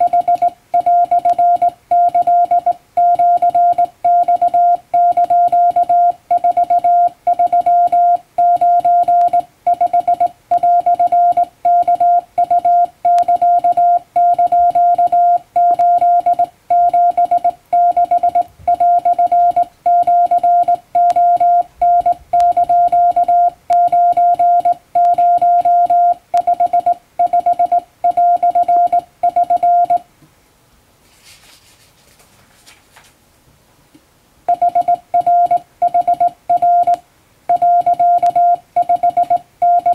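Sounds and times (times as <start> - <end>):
morse code beeps: 0.0 - 30.0, 34.5 - 39.9.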